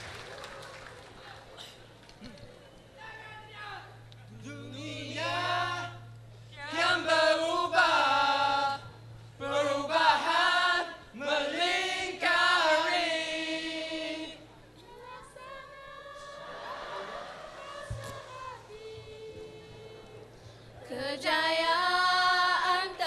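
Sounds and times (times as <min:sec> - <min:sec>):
mixed choir singing: 0:04.4 - 0:23.0.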